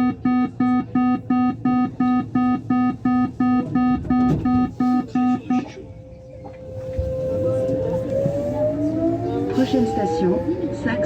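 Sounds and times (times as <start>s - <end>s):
train door warning beeps: 0.0s - 11.0s.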